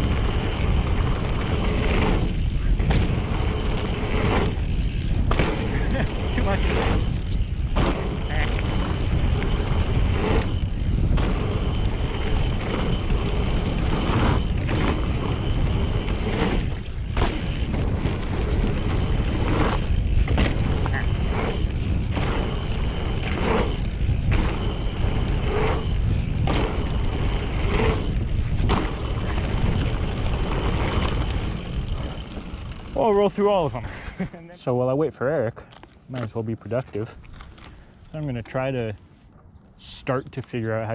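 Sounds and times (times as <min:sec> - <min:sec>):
wind rush on microphone: 0:00.0 - 0:34.2
bike tyre noise: 0:00.0 - 0:34.4, 0:35.6 - 0:40.9.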